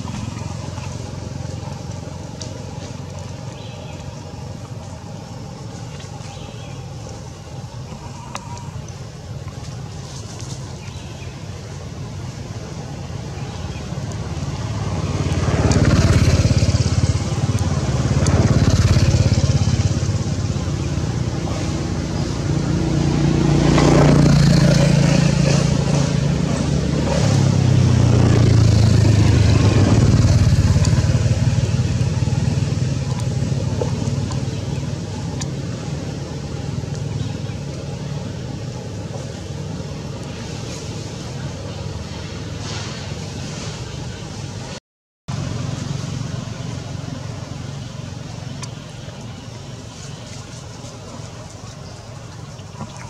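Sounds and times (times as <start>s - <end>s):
vehicle engines passing by: 0.0s - 53.0s.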